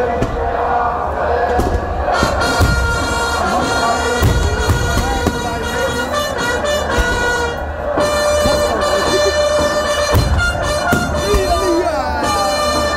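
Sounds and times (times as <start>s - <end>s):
fireworks bangs and crackles: 1.5s - 12.9s.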